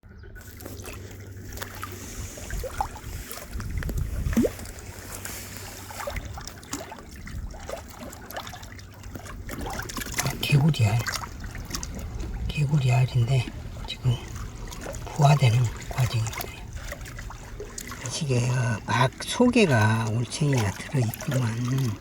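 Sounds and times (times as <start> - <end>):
water trickling and lapping: 0.0 - 22.0
low rumble: 0.1 - 18.0.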